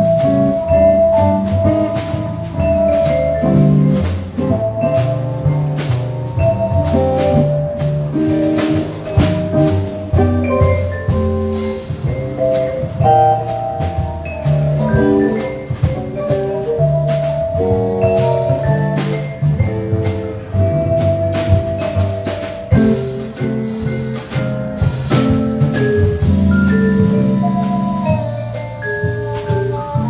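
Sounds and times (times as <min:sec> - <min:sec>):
drum kit: 0:00.0 - 0:30.0
upright bass: 0:00.0 - 0:30.0
vibraphone: 0:00.0 - 0:30.0.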